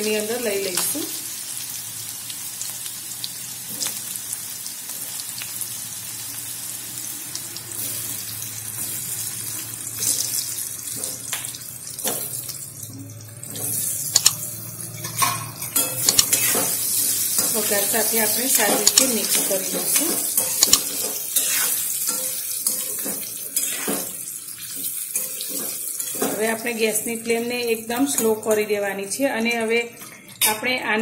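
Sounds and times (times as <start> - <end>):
food sizzling in hot oil: 0.0 - 29.2.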